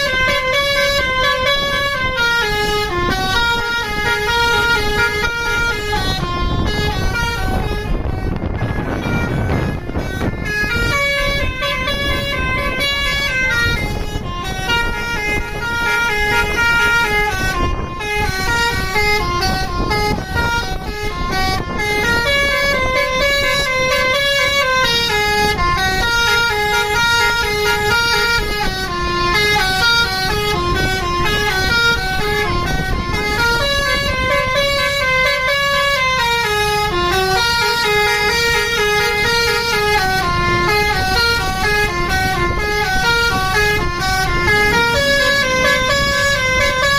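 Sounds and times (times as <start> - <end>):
low engine rumble: 0.0 - 46.9
musical air horn melody: 0.0 - 46.9.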